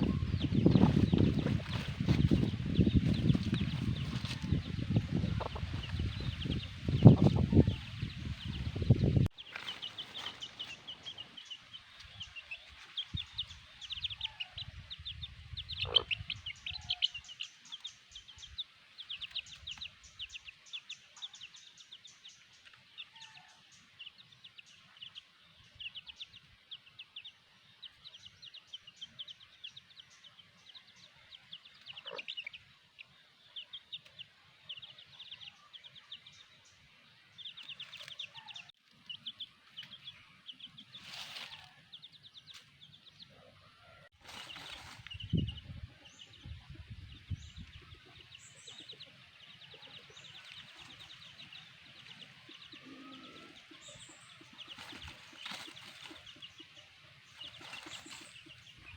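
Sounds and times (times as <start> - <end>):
chicks peeping: 0.0 - 58.9.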